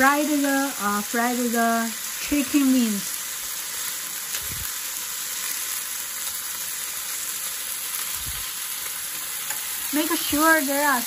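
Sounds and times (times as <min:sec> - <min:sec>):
chicken wings sizzling in a pan: 0:00.0 - 0:11.0.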